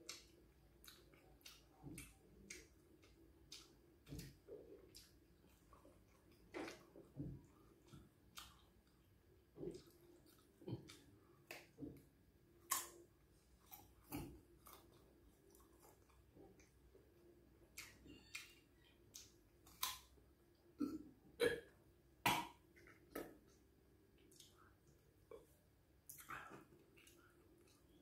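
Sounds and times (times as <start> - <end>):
wet chewing smacks and clicks: 0.0 - 16.9, 17.6 - 20.2, 24.2 - 28.0.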